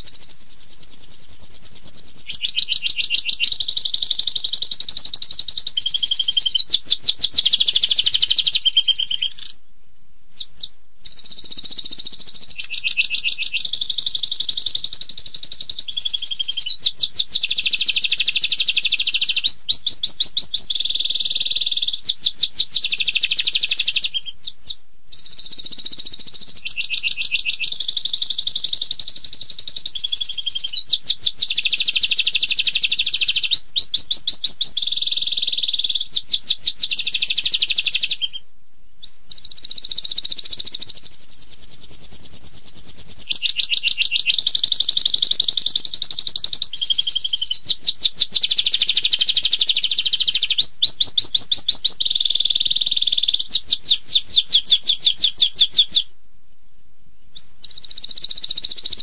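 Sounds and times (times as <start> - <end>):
canary singing trills: 0.0 - 9.7, 10.3 - 56.1, 57.3 - 59.0.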